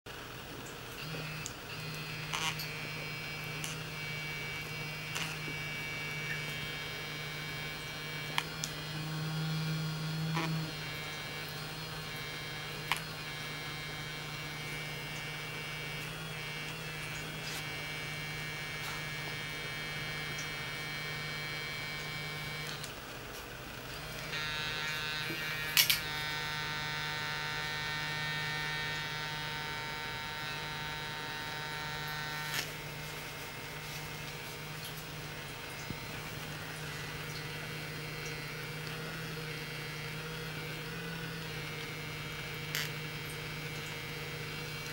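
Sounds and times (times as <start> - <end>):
electric toothbrush buzzing: 0.1 - 44.9.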